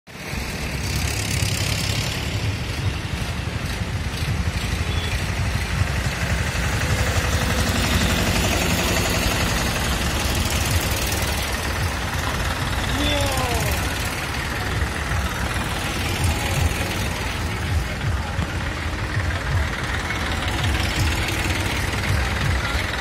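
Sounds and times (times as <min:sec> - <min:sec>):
tractor diesel engines running: 0:00.1 - 0:23.0.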